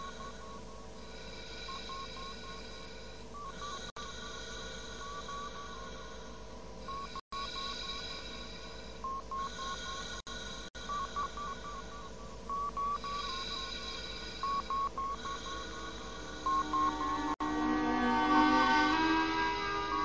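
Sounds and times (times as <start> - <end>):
electronic beeping: 0.0 - 3.9, 4.5 - 20.0
steady electronic hum: 0.0 - 20.0.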